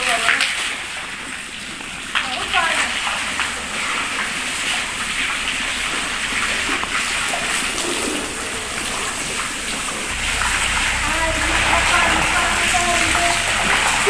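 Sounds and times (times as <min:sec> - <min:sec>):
water gushing and splashing: 0:00.0 - 0:14.0.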